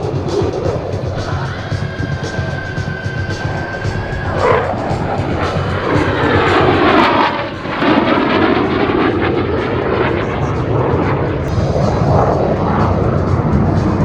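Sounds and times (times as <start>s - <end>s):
loud fighter jet noise: 0.0s - 14.0s.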